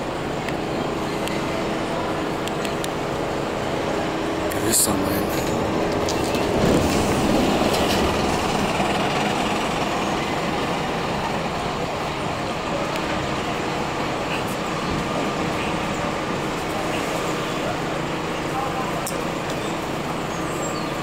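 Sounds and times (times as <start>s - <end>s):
road traffic noise: 0.0s - 21.0s.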